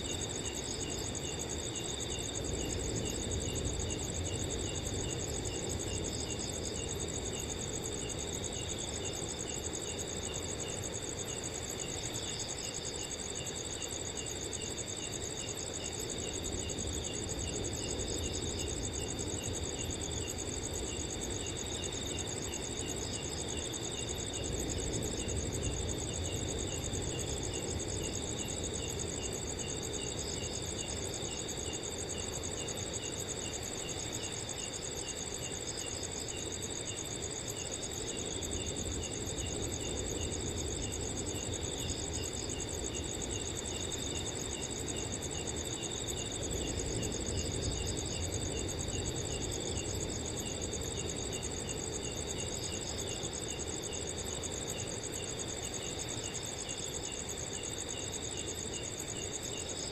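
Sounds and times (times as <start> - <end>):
crickets chirping: 0.0 - 59.9
crickets trilling: 0.0 - 59.9
low steady wind: 0.0 - 59.9.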